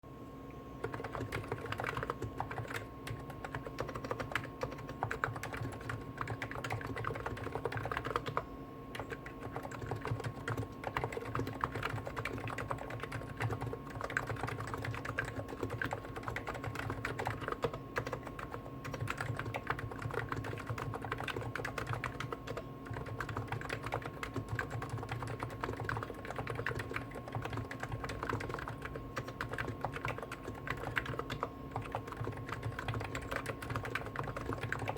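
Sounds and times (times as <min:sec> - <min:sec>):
faint steady hum: 0:00.0 - 0:34.9
keyboard typing: 0:00.8 - 0:34.9.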